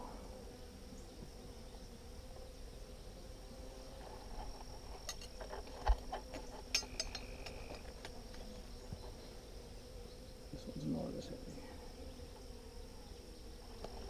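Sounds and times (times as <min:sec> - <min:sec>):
honeybees humming: 0:00.0 - 0:14.0.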